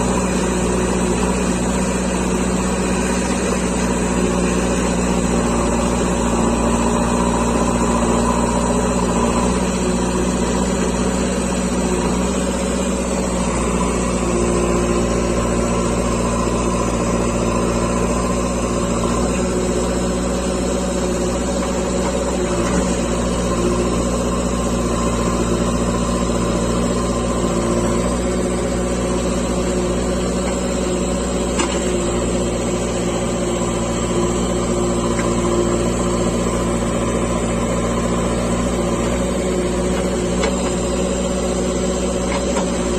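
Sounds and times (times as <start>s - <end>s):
diesel engine under load: 0.0s - 42.9s
hydraulics whining: 0.0s - 42.9s.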